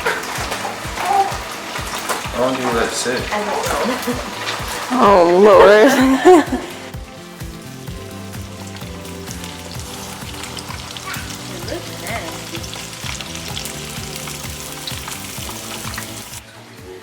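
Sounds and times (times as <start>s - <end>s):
chicken sizzling in hot oil: 0.0s - 16.4s
background music with beat: 0.0s - 17.0s.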